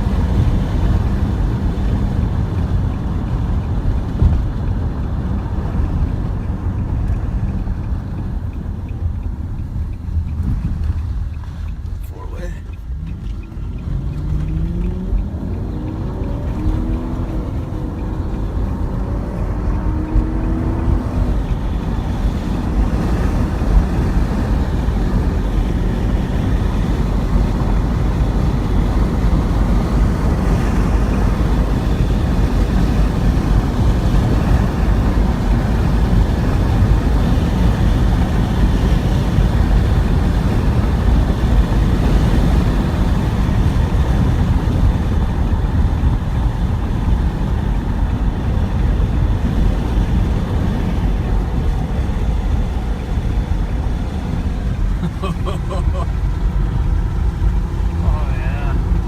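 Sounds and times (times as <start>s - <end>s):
road and wind noise: 0.0s - 59.0s
vehicle engine accelerating: 0.0s - 59.0s.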